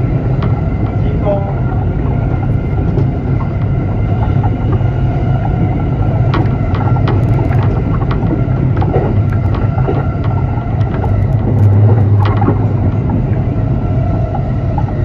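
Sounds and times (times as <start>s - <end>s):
train rumble inside carriage: 0.0s - 15.0s
wheel clicks on rails: 0.0s - 15.0s.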